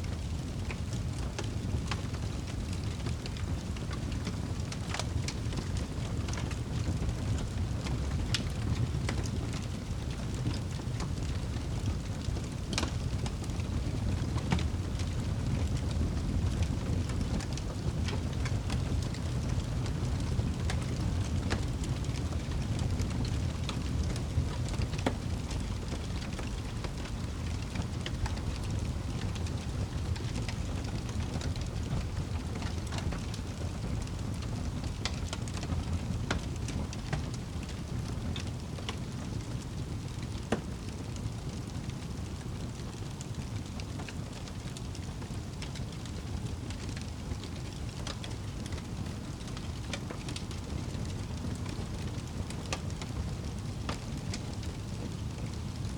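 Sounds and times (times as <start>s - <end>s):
burning logs crackling and popping: 0.0s - 55.9s
fire flames rumbling and hissing: 0.0s - 55.9s.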